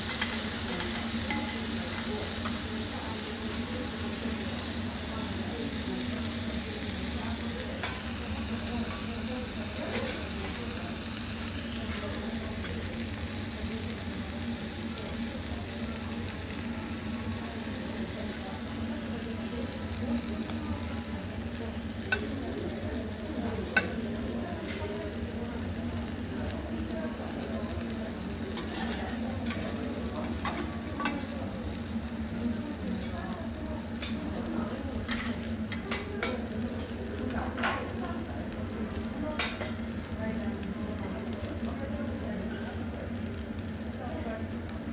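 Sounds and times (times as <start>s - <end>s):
food sizzling on griddle: 0.0s - 44.9s.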